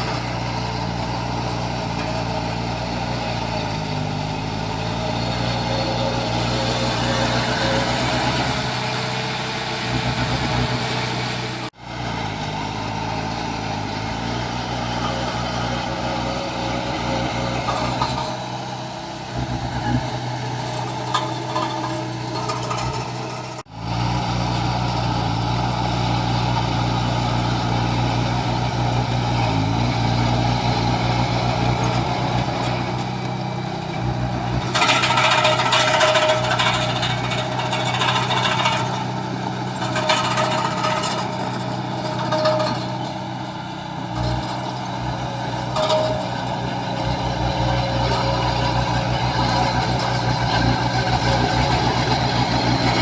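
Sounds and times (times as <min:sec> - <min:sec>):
diesel construction engines running: 0:00.0 - 0:53.0.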